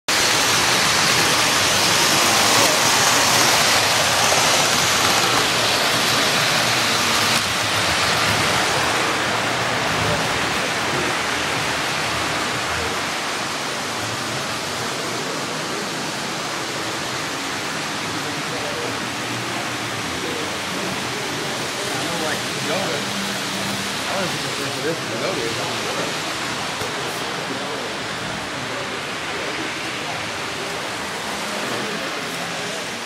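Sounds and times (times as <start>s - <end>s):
loud rushing hiss: 0.1s - 33.0s.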